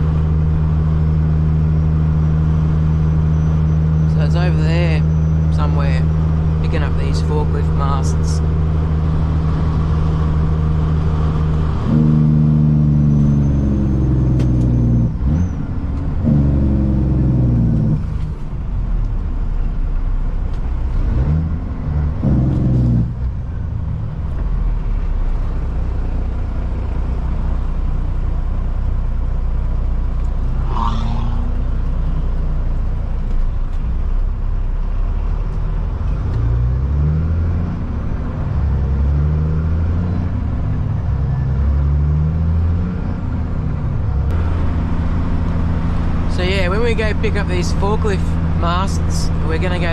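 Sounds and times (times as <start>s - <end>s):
truck diesel engine shifting gears: 0.0s - 49.9s.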